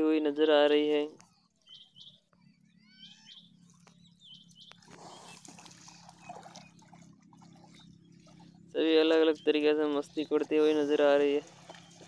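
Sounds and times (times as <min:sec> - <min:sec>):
small birds chirping: 0:00.2 - 0:12.0
faint water sloshing: 0:02.3 - 0:12.0.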